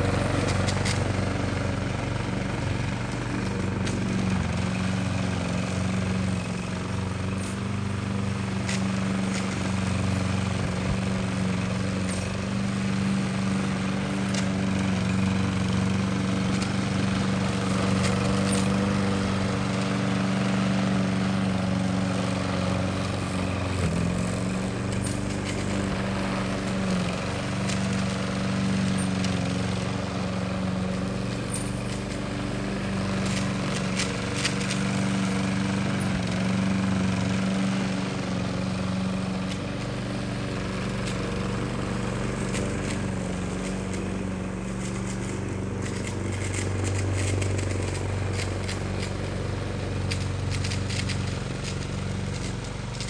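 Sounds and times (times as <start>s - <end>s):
grass cutter engine running: 0.0s - 53.0s.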